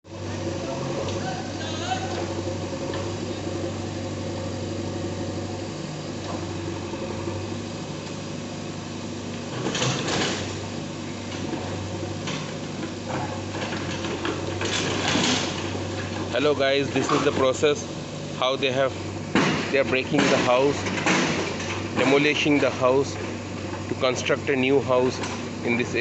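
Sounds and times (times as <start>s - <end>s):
bulldozer diesel engine: 0.1s - 26.0s.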